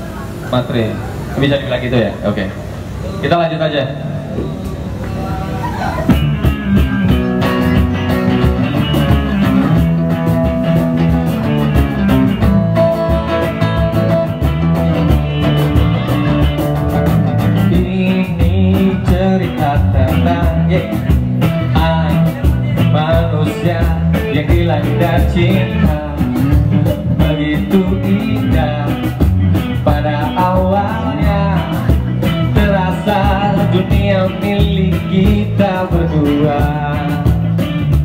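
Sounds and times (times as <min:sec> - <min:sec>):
acoustic band playing pop ballad: 0:00.0 - 0:38.0
cajon beat: 0:04.2 - 0:38.0.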